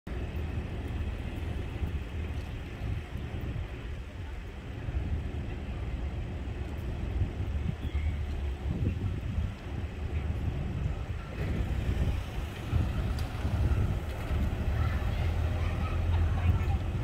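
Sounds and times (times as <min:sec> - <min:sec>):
street background rumble: 0:00.1 - 0:17.0.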